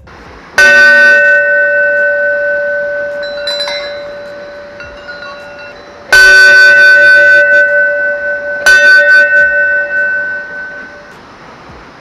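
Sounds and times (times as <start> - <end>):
metal bell ringing: 0.0 - 11.4.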